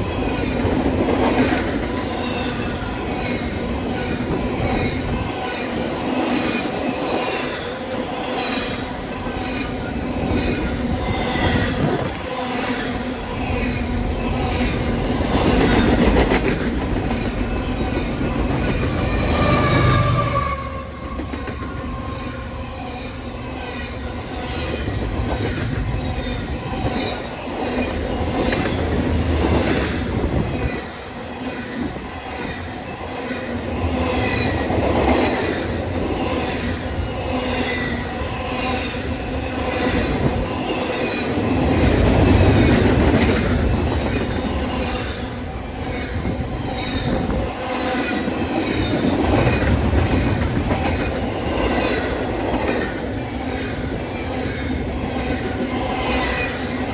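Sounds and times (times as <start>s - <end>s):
train wheel squeal: 0.0s - 29.0s, 29.6s - 56.9s
train wheels clicking over rail joints: 8.4s - 56.9s.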